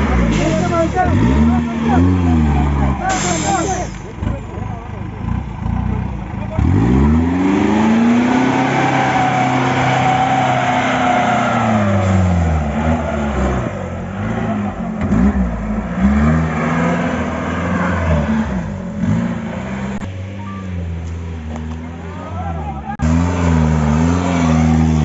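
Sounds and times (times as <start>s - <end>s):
jeep engine revving hard: 0.0s - 4.4s, 5.2s - 20.0s, 22.9s - 25.0s.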